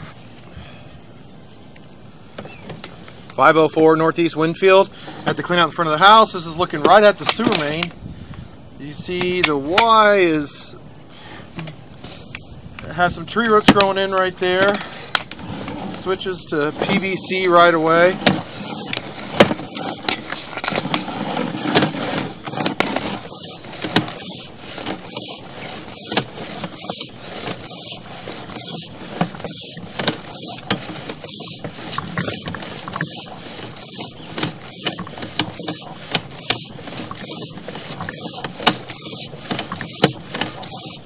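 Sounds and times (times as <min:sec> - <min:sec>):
steady hiss: 0:00.0 - 0:41.0
cable scraping and clicking: 0:04.6 - 0:08.0, 0:11.6 - 0:41.0.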